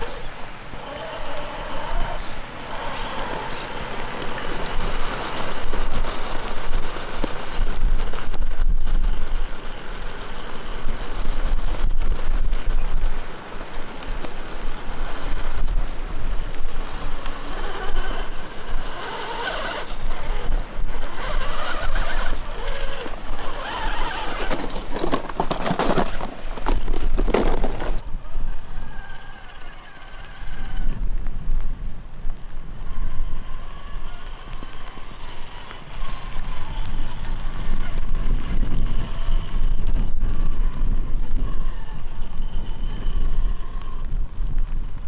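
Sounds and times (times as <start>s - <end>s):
electric motor whining: 0.0s - 13.0s, 13.8s - 31.2s, 32.5s - 44.4s
wind rumble on microphone: 0.0s - 45.0s.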